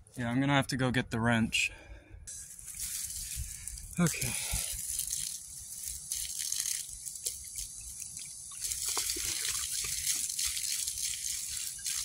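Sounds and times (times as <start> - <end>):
water pouring and splashing on grass: 2.3 - 12.0.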